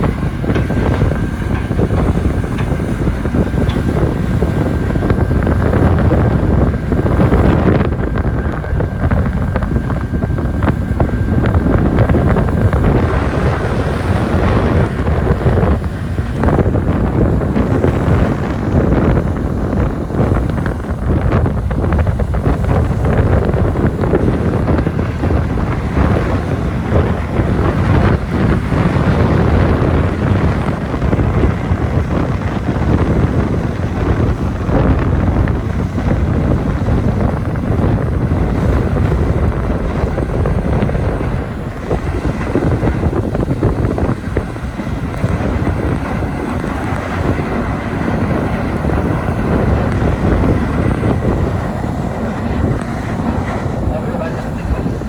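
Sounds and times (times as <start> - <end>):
strong wind buffeting microphone: 0.0 - 55.0.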